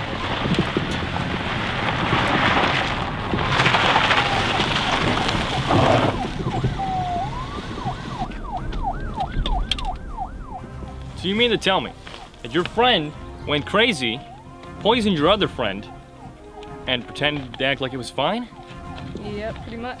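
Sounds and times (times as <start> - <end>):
car tyres crunching on gravel: 0.0 - 20.0
police siren wailing and yelping: 3.8 - 20.0.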